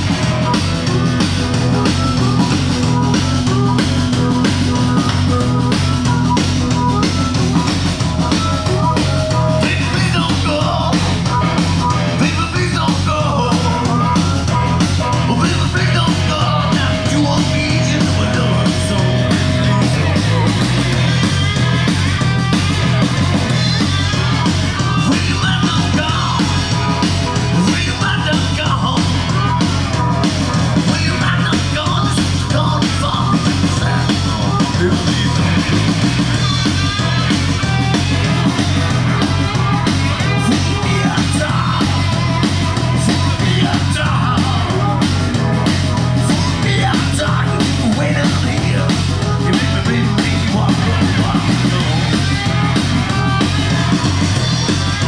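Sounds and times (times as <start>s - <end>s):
loud rock music with singing: 0.0s - 55.0s.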